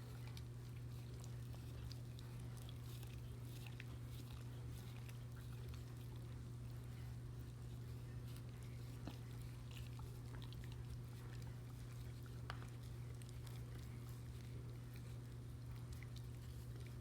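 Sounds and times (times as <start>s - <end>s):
dog chewing corn cob: 0.0s - 17.0s.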